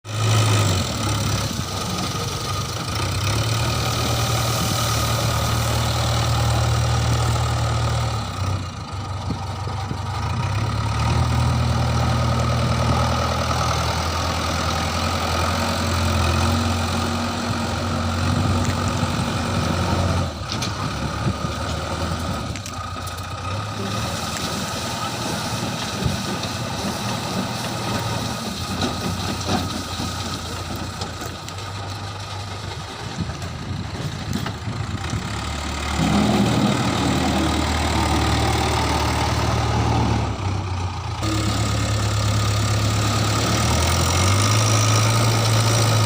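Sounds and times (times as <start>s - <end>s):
heavy diesel engine idling: 0.1s - 46.0s.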